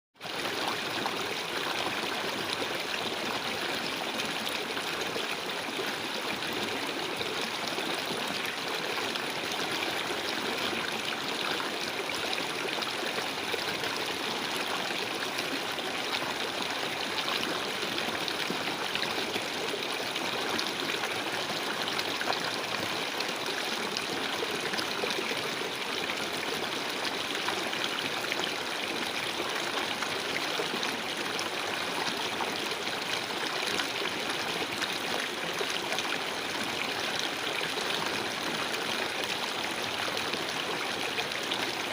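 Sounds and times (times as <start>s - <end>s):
stream flowing: 0.2s - 41.9s.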